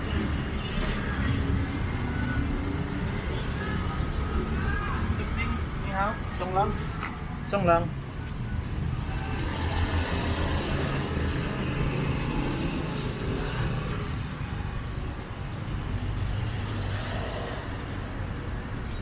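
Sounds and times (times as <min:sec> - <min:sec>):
road noise: 0:00.0 - 0:19.0
vehicles passing: 0:00.0 - 0:19.0.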